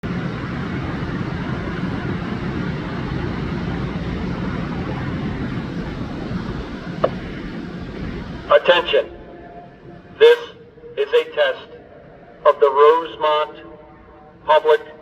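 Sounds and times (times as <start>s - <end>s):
background rumble with low hum: 0.0s - 15.0s.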